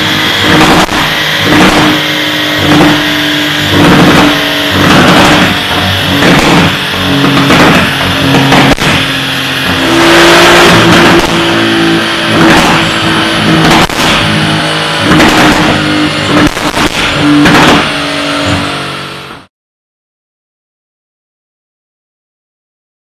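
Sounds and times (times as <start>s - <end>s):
car engine revving loudly: 0.0s - 19.5s
exhaust cracks: 0.0s - 19.5s.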